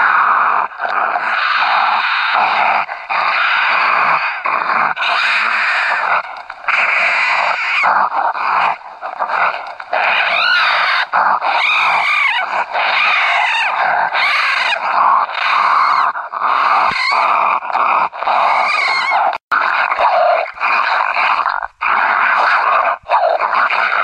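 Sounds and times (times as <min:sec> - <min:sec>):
raccoons snarling and growling: 0:00.0 - 0:24.0
raccoon squeals: 0:01.2 - 0:24.0.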